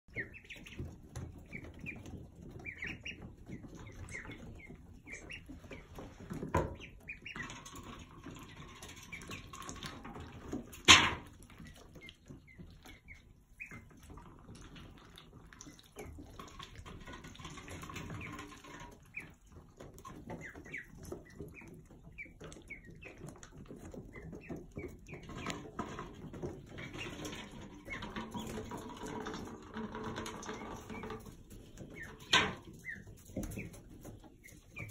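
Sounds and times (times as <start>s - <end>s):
ducklings peeping: 0.0s - 34.9s.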